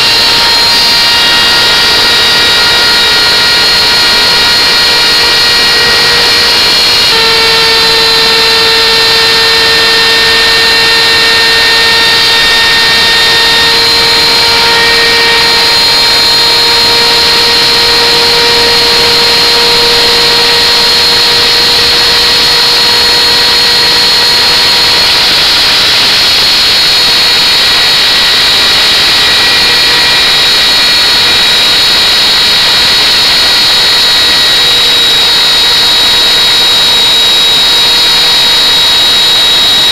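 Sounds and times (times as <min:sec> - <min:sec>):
wood router high whine: 0:00.0 - 0:39.9.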